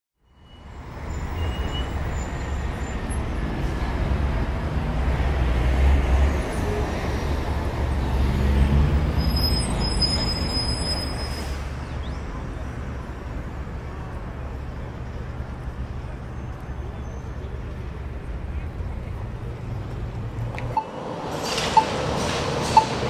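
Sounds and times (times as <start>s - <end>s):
street traffic rumble: 0.2s - 23.0s.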